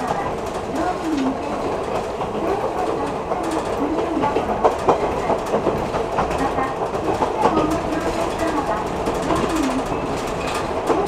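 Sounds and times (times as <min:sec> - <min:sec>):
rail joint clicks: 0:00.0 - 0:11.0
train wheels rumbling on rail: 0:00.0 - 0:11.0.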